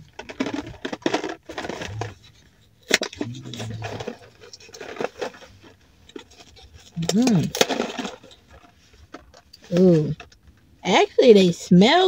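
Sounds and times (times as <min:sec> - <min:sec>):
cardboard scraping and crinkling: 0:00.0 - 0:10.0.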